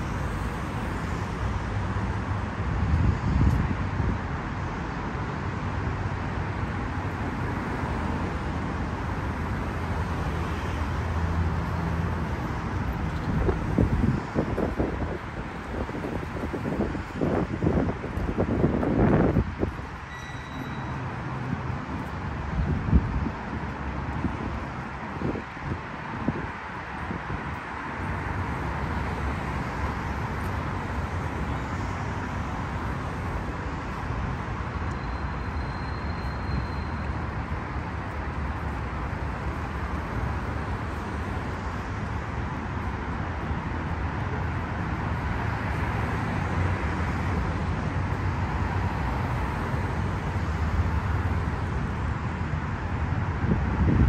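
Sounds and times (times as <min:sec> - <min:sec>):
highway traffic hum: 0:00.0 - 0:54.0.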